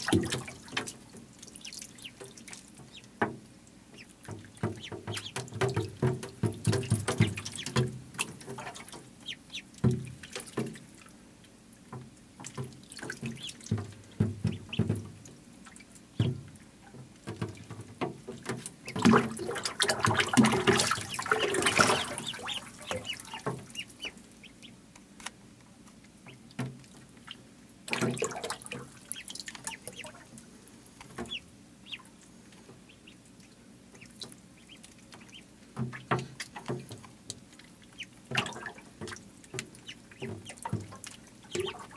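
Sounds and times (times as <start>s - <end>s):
ducklings peeping: 0.0s - 10.9s, 12.4s - 41.9s
ducklings splashing in water: 0.0s - 41.9s.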